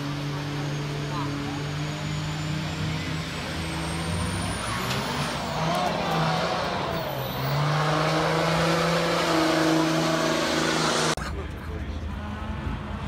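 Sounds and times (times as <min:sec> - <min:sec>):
trucks accelerating at full throttle: 0:00.0 - 0:13.0.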